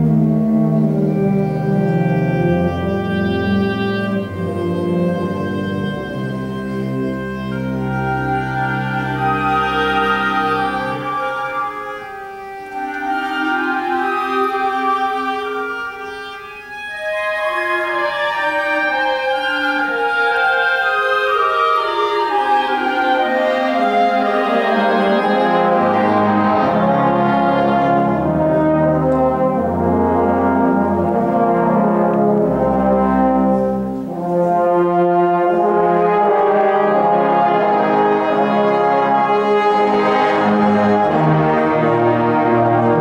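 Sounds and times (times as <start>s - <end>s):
wind band playing: 0.0s - 43.0s.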